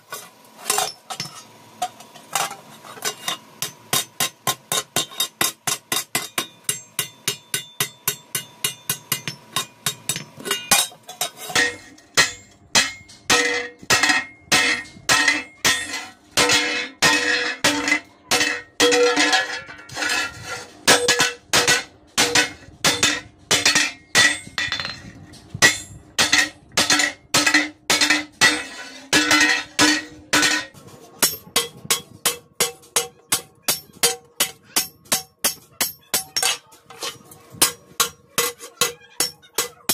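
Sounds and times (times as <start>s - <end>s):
hammer striking metal plate: 0.7s - 39.9s.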